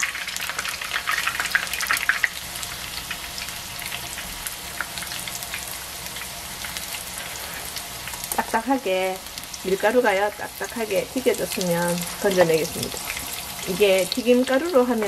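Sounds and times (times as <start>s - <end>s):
battered food deep-frying in oil: 0.0s - 15.0s.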